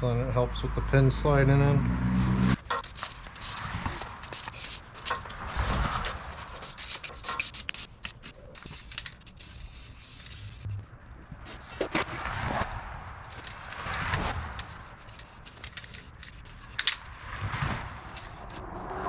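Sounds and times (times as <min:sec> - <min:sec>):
metal scraping and rubbing: 0:02.1 - 0:19.0.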